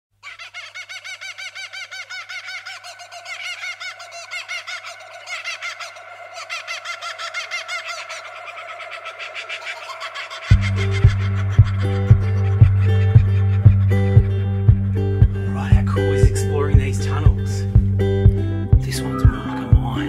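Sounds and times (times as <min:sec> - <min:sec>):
birds chirping rapidly: 0:00.2 - 0:19.6.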